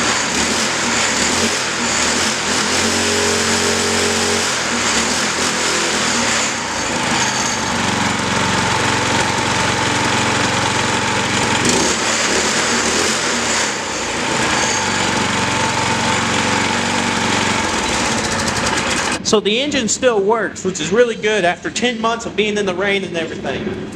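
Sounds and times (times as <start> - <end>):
go-kart engine revving: 0.0 - 19.3.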